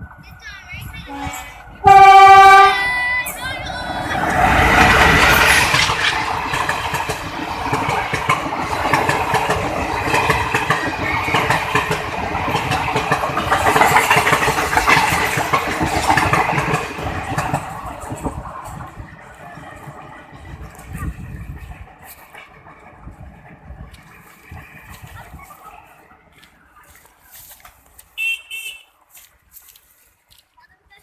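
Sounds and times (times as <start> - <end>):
diesel locomotive engine: 0.0 - 31.0
train wheels clattering: 1.1 - 28.2.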